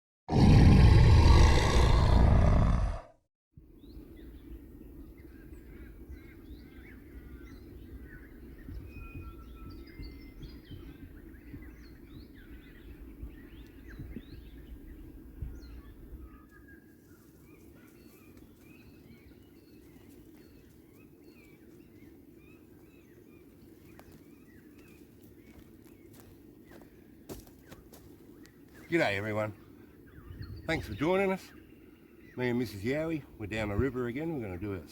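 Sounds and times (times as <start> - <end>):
birds chirping and calling: 4.2 - 34.9.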